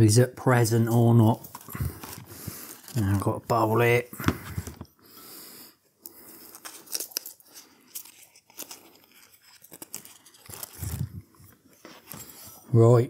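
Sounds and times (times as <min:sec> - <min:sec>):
paper muffin case crinkling: 0:00.7 - 0:04.9, 0:06.3 - 0:12.7.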